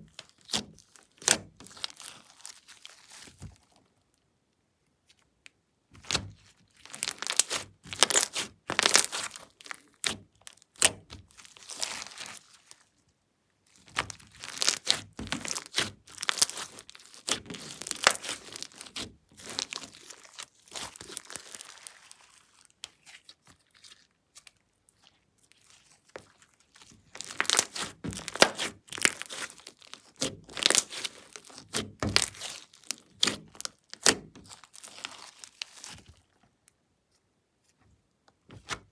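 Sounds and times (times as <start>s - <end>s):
slime squished by hand: 0.0s - 3.8s, 6.0s - 12.9s, 13.7s - 36.4s.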